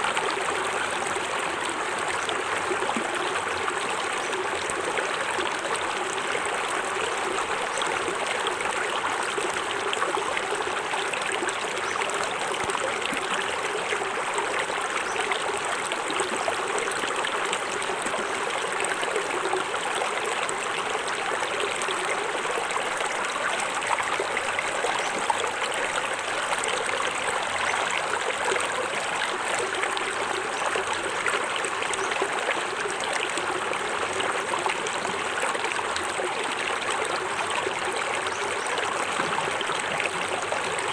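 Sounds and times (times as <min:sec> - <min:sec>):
water running over rocks: 0:00.0 - 0:40.9.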